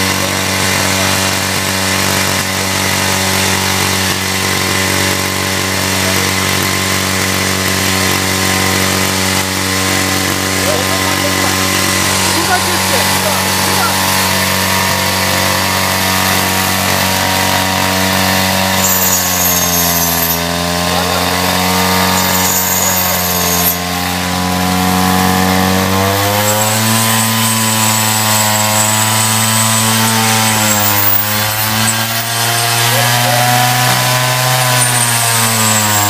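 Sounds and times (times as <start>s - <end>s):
table saw cutting bone: 0.0s - 36.0s.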